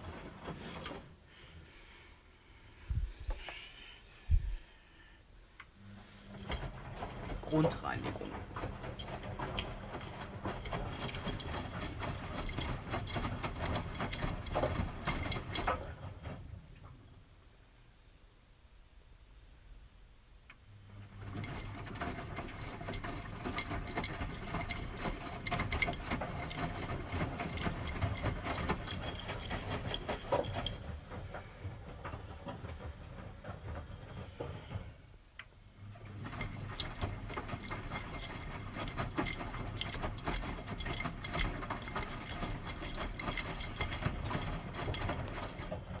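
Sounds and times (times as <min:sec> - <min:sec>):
washing machine drum churning laundry: 0:00.0 - 0:02.0, 0:05.8 - 0:17.3, 0:20.7 - 0:46.0.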